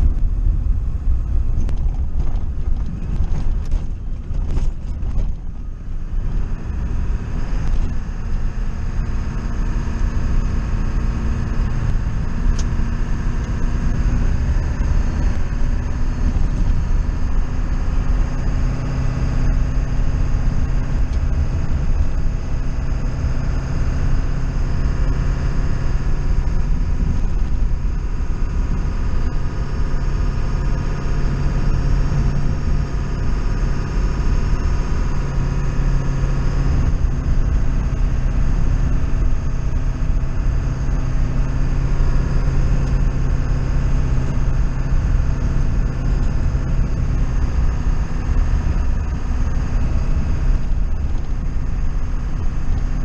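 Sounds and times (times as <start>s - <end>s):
constant hum: 0.0s - 53.0s
vehicle engine running: 0.0s - 53.0s.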